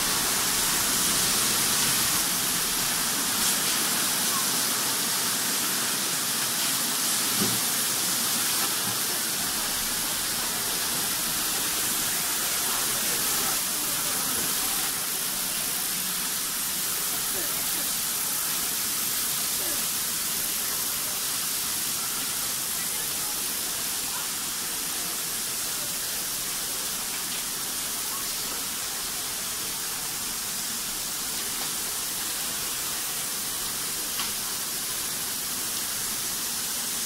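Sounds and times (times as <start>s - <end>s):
factory hissing: 0.0s - 37.0s.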